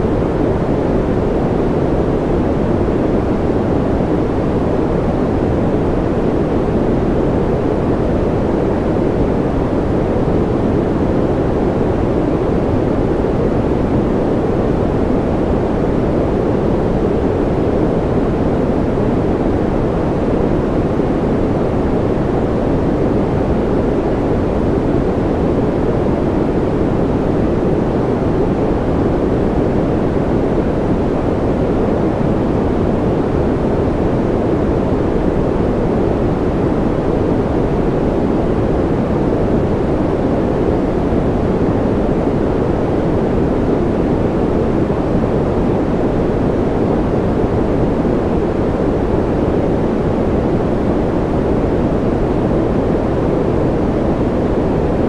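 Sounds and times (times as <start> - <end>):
deep rumbly white noise: 0.0 - 55.0.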